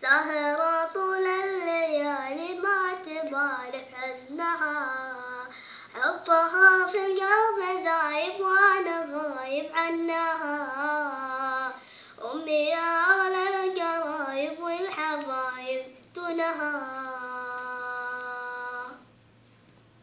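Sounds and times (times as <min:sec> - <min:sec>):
child singing unaccompanied: 0:00.0 - 0:19.1.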